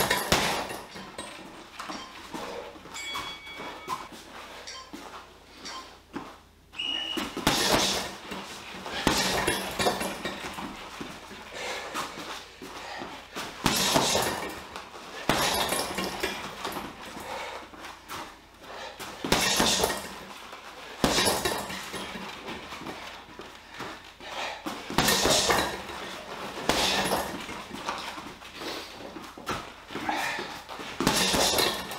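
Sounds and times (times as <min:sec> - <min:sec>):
boxing gloves punching heavy bag: 0:00.0 - 0:04.2, 0:07.0 - 0:31.9.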